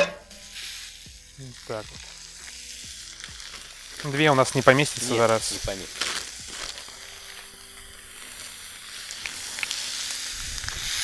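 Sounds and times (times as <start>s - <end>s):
burger sizzling in a frying pan: 0.0s - 11.0s.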